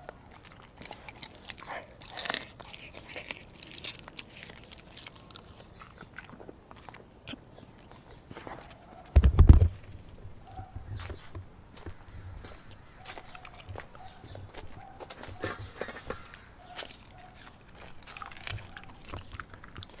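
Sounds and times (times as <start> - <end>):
dog chewing raw meat: 0.0 - 9.2, 11.8 - 20.0.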